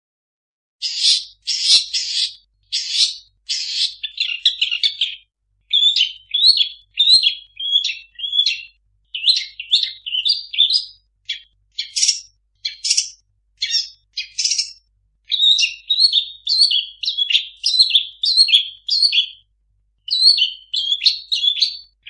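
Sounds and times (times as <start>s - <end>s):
shrike singing varied song: 0.8s - 22.0s.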